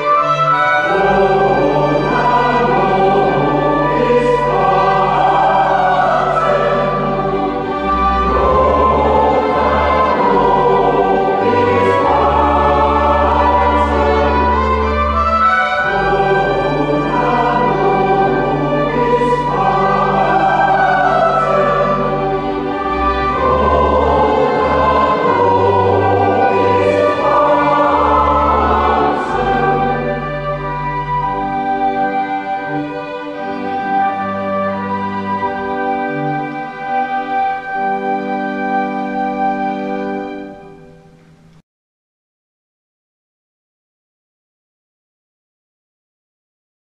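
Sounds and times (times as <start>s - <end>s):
church choir singing: 0.0s - 41.2s
organ low bass notes: 0.4s - 40.5s.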